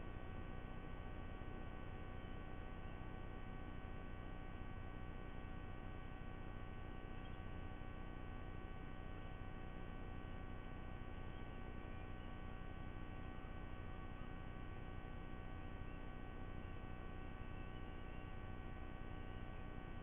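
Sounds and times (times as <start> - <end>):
electrical hum with held tones: 0.0 - 20.0.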